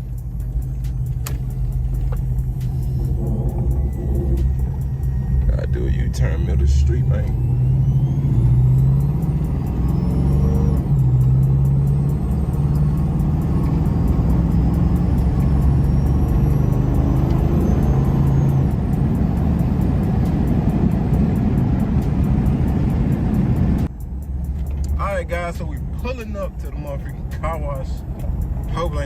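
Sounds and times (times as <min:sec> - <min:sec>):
bass-heavy music on car stereo: 0:00.0 - 0:29.0
road and engine rumble: 0:00.0 - 0:29.0.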